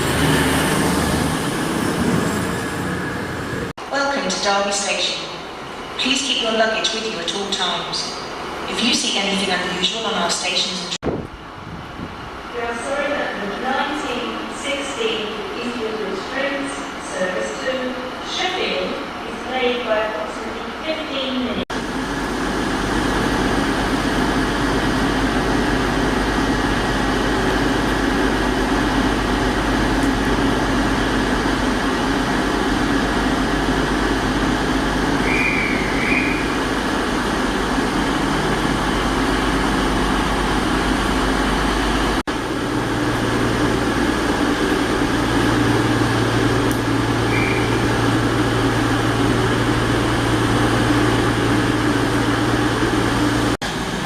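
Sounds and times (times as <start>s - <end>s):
diesel train engine drone: 0.0s - 54.0s.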